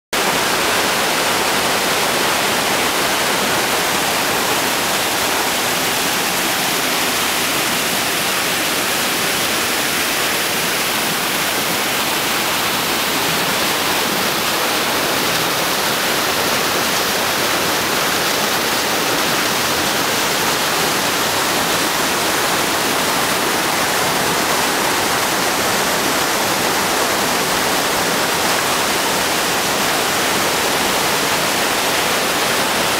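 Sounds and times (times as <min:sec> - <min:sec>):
waterfall and rapids rushing: 0:00.2 - 0:32.9.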